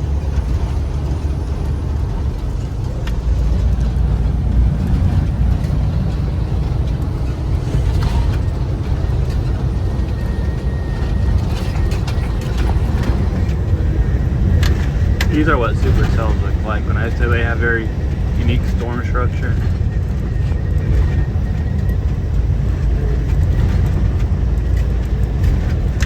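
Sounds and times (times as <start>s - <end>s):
car engine: 0.0s - 26.0s
tyres rumbling on bumpy road: 0.0s - 26.0s.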